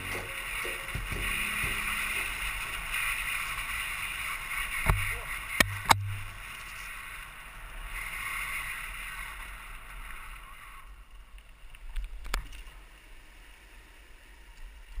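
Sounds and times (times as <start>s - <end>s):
bike tyre rumble: 0.0s - 15.0s.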